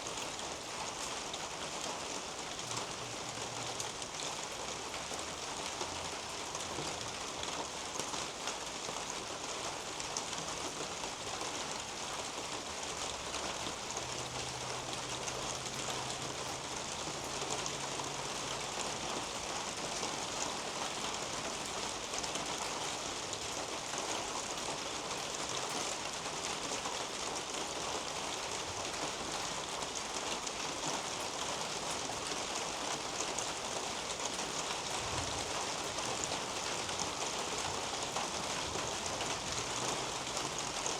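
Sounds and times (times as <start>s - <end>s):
rain on foliage and soil: 0.0s - 40.9s.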